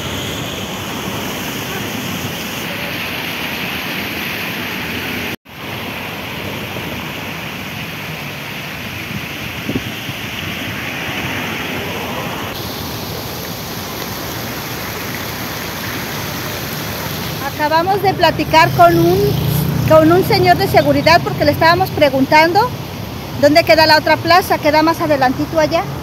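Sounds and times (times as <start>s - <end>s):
steady outdoor rushing noise: 0.0s - 26.0s.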